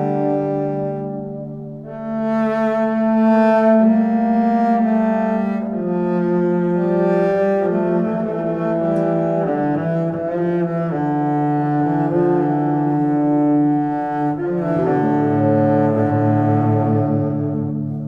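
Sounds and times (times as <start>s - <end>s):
slow held chords music: 0.0s - 18.0s.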